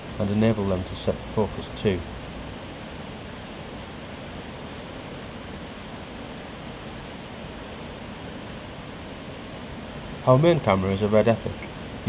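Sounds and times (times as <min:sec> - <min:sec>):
fast white water rushing: 0:00.0 - 0:12.0
waterfall: 0:00.0 - 0:12.0.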